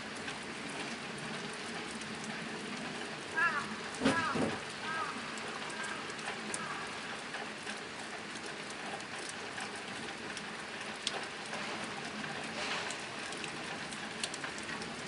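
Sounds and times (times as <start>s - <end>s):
rain drumming on a tin roof: 0.0s - 15.0s.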